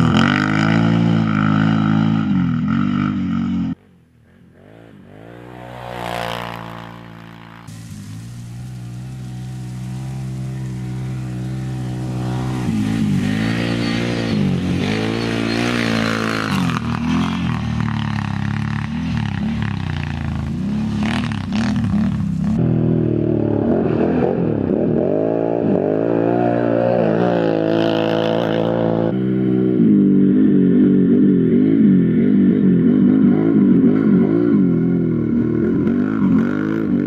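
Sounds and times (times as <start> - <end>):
quad engine revving: 0.0 - 37.0.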